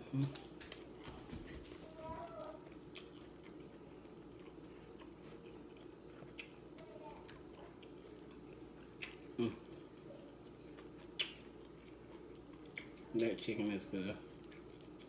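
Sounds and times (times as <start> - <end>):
person chewing fried chicken: 0.1 - 13.1.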